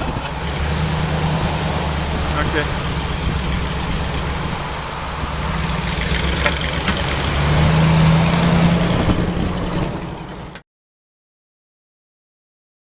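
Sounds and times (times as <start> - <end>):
truck engine running: 0.0 - 10.6.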